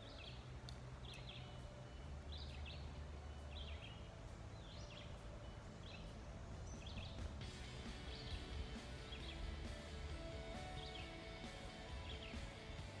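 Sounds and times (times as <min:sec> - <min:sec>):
bird chirping: 0:00.0 - 0:13.0
low outdoor rumble: 0:00.0 - 0:13.0.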